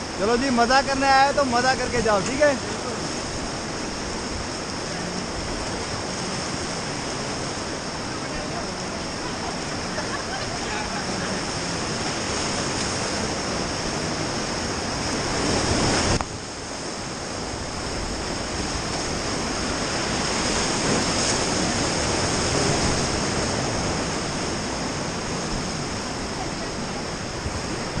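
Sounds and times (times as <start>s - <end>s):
whitewater rapids rushing: 0.0s - 28.0s.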